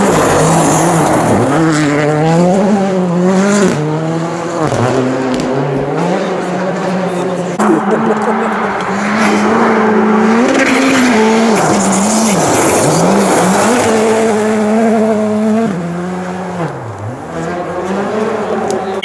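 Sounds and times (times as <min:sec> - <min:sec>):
rally car engine at high revs: 0:00.0 - 0:19.0.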